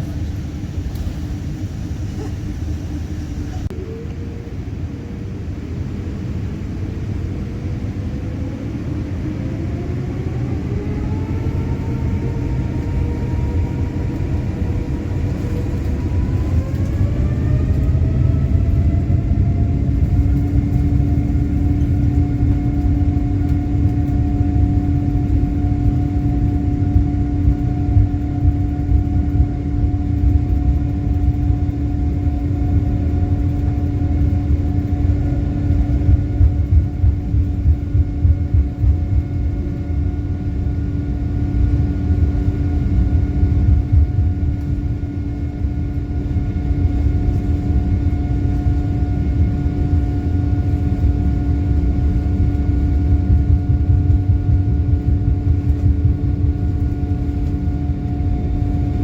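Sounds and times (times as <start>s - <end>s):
jet engine low rumble: 0.0s - 59.0s
jet engine whine rising: 0.0s - 59.0s.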